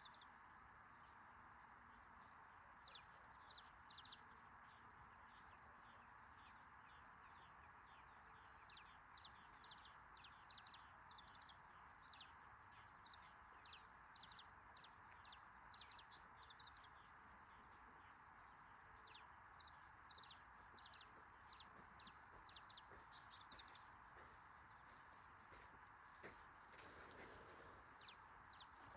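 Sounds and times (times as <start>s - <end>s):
faint steady hiss: 0.0s - 28.9s.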